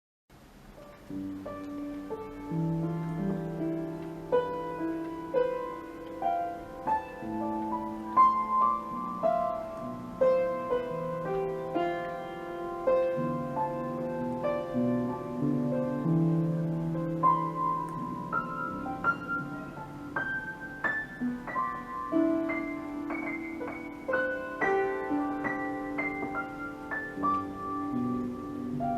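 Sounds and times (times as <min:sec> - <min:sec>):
slow piano melody: 0:00.3 - 0:28.9.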